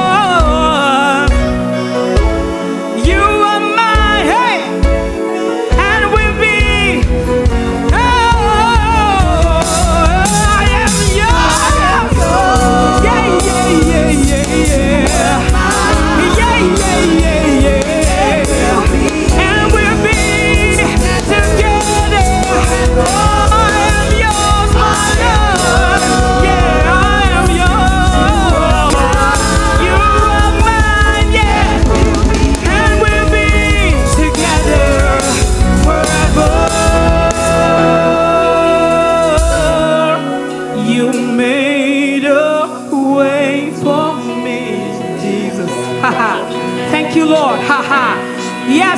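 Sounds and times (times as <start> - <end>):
live band with singing: 0.0 - 48.9.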